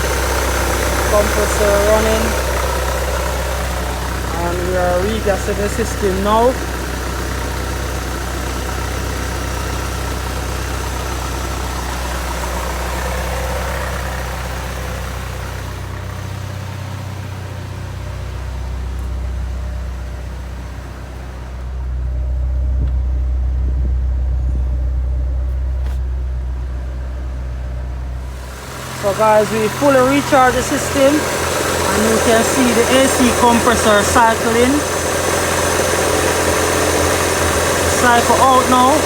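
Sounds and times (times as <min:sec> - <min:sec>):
ac compressor hum: 0:00.0 - 0:39.0
car engine idling: 0:00.0 - 0:39.0.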